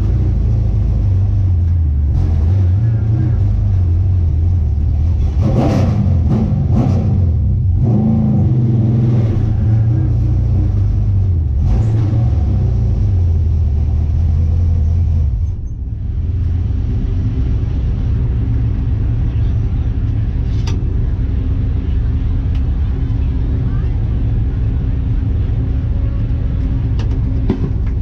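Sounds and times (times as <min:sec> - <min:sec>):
race car engine rumbling: 0:00.0 - 0:28.0.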